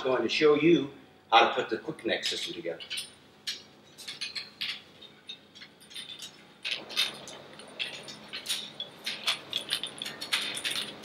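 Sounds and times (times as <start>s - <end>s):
metal tubing clicking and clinking: 2.1s - 11.0s.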